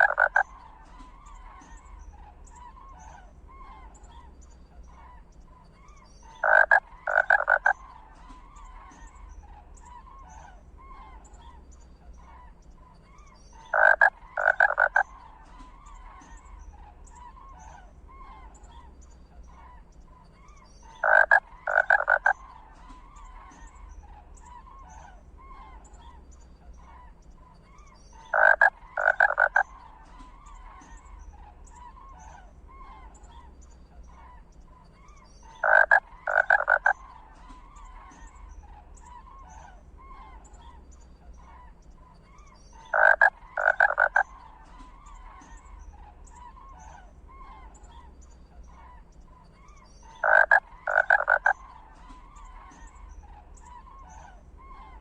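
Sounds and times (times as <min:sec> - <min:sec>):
harsh animal calls: 0:00.0 - 0:05.3, 0:06.2 - 0:55.0
chorus of small chirps: 0:00.0 - 0:55.0.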